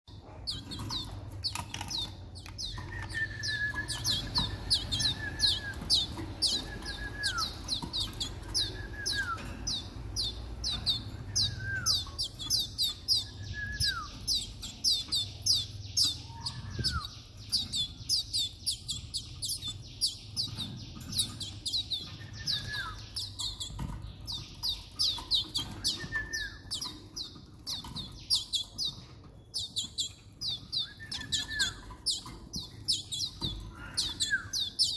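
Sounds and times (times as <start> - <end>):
young canaries chirping rapidly: 0.1 - 34.9.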